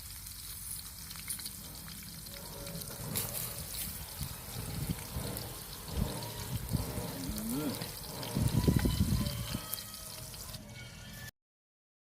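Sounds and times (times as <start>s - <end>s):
oil sizzling in a frying pan: 0.0s - 10.8s.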